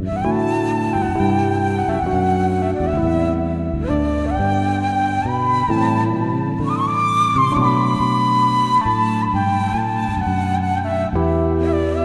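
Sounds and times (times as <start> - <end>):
reed flute slow melody: 0.0 - 12.0.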